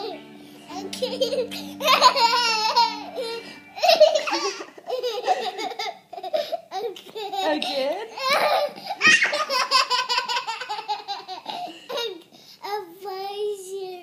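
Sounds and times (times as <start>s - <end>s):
toddler laughing: 0.0s - 7.6s, 8.2s - 12.2s.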